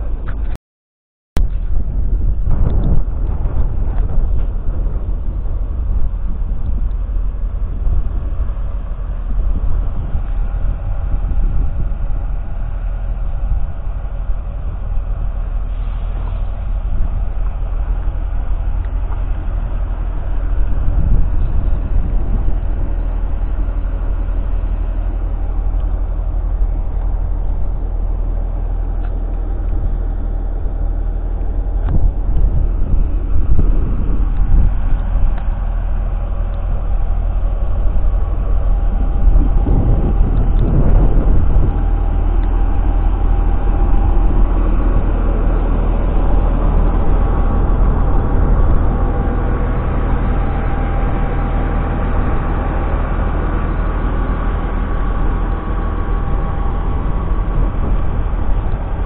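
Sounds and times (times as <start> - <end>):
diesel engine running: 0.0 - 0.6, 1.4 - 59.0.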